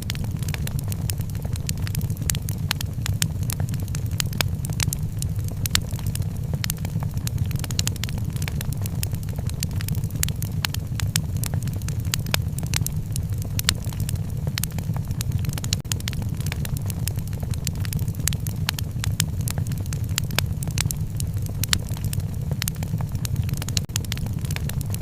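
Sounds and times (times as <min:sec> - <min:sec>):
wood fire roaring and crackling: 0:00.0 - 0:25.0.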